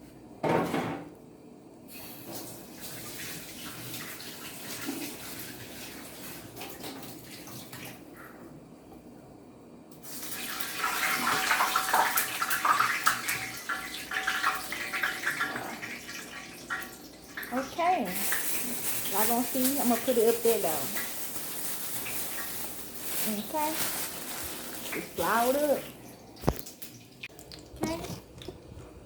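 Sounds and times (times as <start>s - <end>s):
water running from tap: 2.3s - 8.1s, 10.0s - 27.9s.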